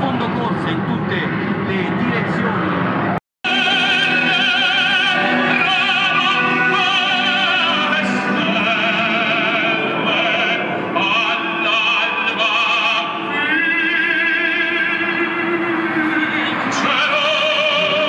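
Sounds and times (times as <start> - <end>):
operatic singing with vibrato: 3.4 - 18.0
orchestral music: 3.4 - 18.0.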